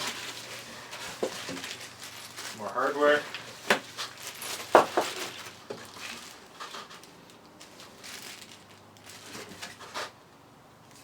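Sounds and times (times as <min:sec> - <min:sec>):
packaging rustling: 0:00.0 - 0:10.2
small parts being moved: 0:00.0 - 0:10.2.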